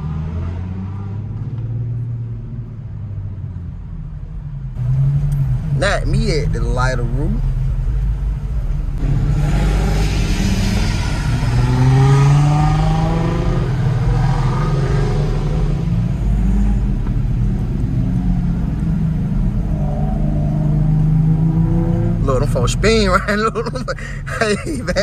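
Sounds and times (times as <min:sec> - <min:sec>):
car engine revving: 0:04.8 - 0:25.0.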